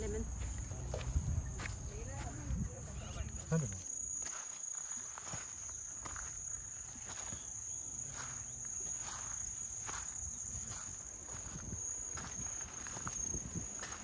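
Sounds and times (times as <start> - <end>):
footsteps on dirt path: 0.0 - 14.0
insects droning: 0.0 - 14.0.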